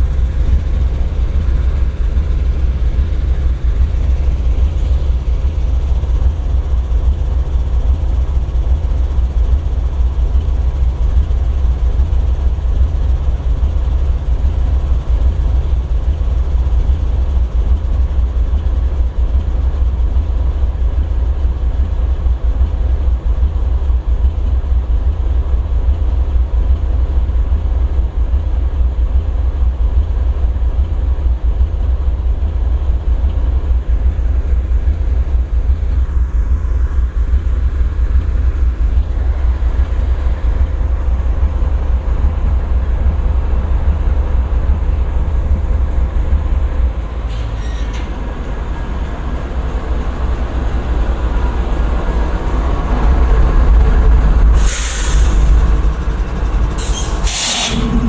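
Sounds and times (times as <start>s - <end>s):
faint steady hum: 0.0s - 57.2s
diesel locomotive idling: 0.0s - 58.0s.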